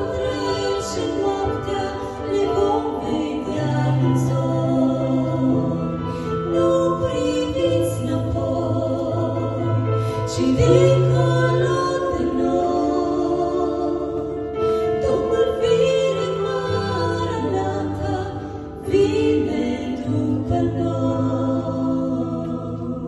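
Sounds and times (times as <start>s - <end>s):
piano accompaniment: 0.0s - 23.0s
two women singing: 0.0s - 23.0s.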